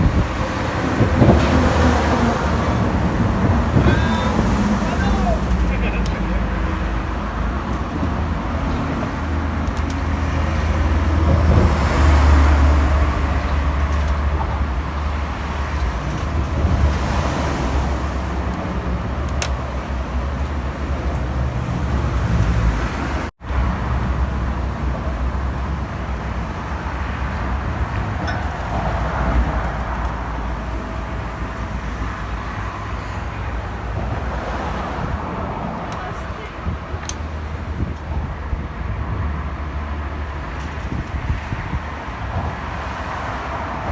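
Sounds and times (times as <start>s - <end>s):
road traffic rumble on bridge: 0.0s - 43.9s.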